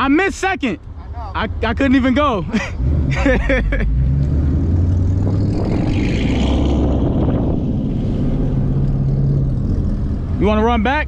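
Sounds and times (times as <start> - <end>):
car engine running at low revs: 0.0 - 11.0
road and tyre noise: 0.0 - 11.0.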